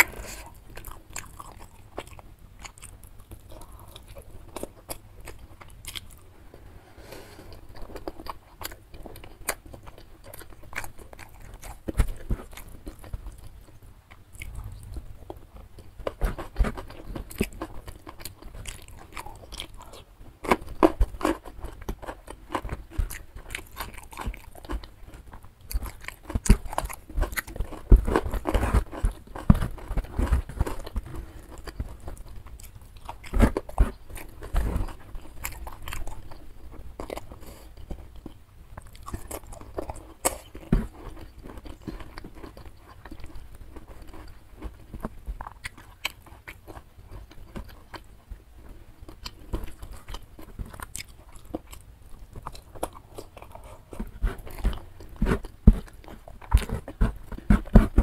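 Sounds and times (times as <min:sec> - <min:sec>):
close chewing of food: 0:00.0 - 0:58.0.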